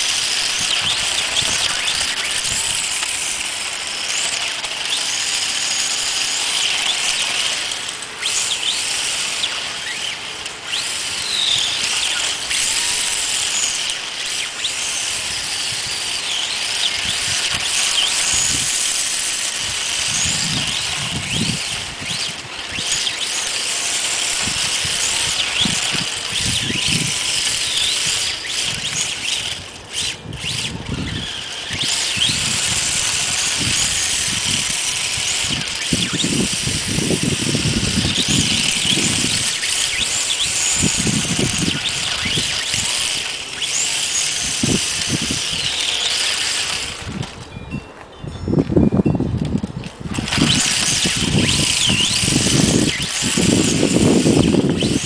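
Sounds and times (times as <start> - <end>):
rc car motor whining: 0.0 - 47.8, 48.5 - 55.0.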